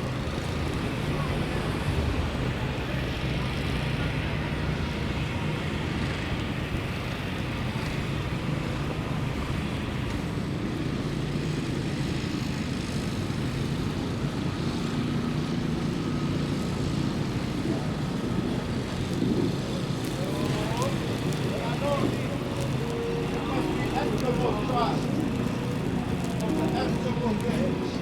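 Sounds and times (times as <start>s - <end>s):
low rumble of motor traffic: 0.0s - 28.0s.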